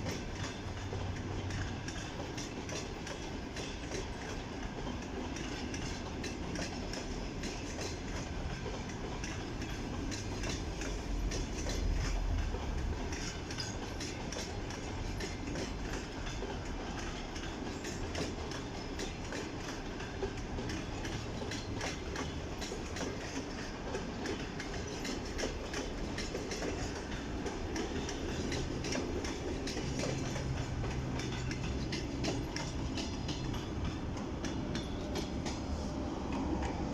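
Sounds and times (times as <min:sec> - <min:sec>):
rumble of wheels on rail: 0:00.0 - 0:36.9
train wheels clicking over rail joints: 0:00.0 - 0:36.9.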